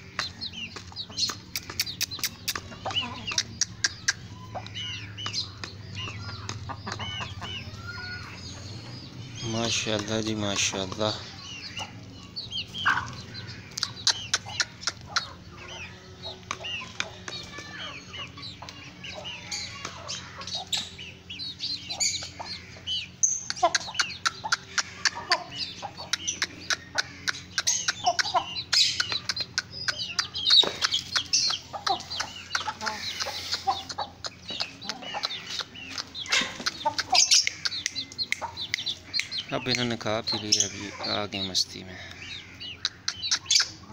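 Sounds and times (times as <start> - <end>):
beaks pecking on concrete: 0.0 - 43.9
chickens clucking and peeping: 0.0 - 43.9.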